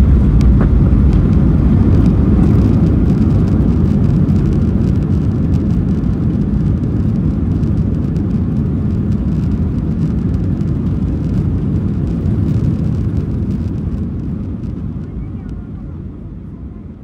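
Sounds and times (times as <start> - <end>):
airliner cabin rumble: 0.0 - 17.0
jet engines: 0.0 - 17.0
wheels rolling on runway: 0.0 - 17.0.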